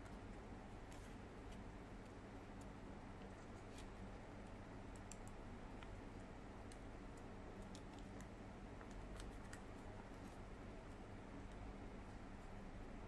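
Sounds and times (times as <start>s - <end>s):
low hiss and hum: 0.0s - 13.0s.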